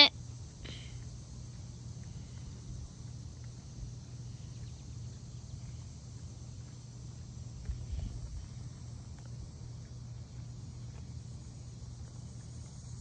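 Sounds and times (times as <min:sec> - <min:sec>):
faint scattered ticks: 0:00.0 - 0:13.0
low outdoor rumble: 0:00.0 - 0:13.0.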